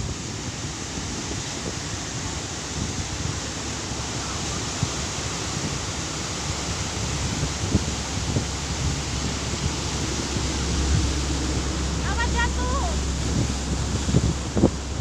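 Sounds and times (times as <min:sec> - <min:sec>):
rough sea surf rushing: 0:00.0 - 0:15.0
wind buffeting microphone: 0:00.0 - 0:15.0.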